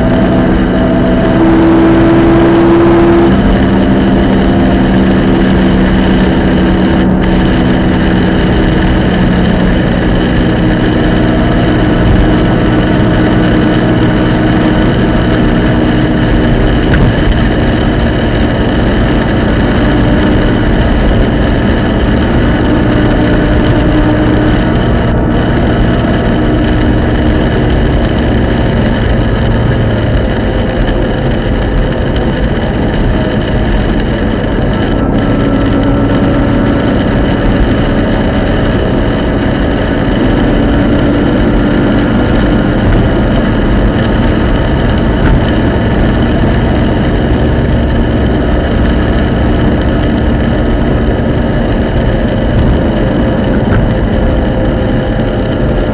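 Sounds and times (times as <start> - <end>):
car drivetrain noise: 0.0 - 55.9
humming noise: 0.0 - 55.9.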